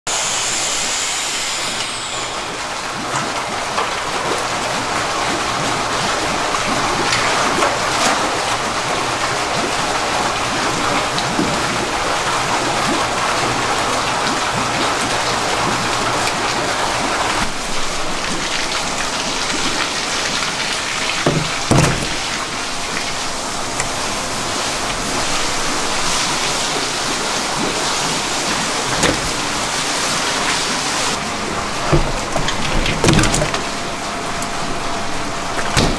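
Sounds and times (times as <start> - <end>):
water pouring from pipe: 0.1 - 35.9
eels splashing: 0.2 - 35.9.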